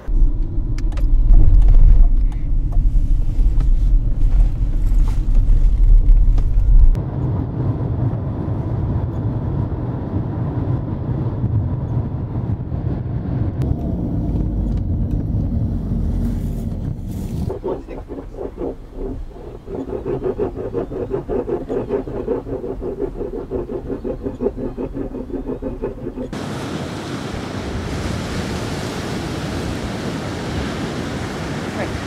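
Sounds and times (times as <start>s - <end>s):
engine and tyre rumble: 0.0s - 26.6s
road and wind noise: 0.0s - 32.0s.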